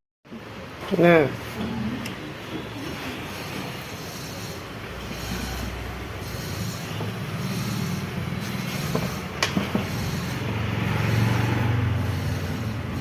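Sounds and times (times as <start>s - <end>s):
vehicle engine humming: 2.3s - 13.0s.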